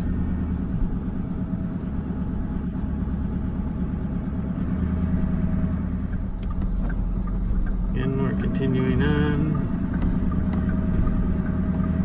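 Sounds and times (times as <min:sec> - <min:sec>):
vehicle engine and road hum: 0:00.0 - 0:12.0.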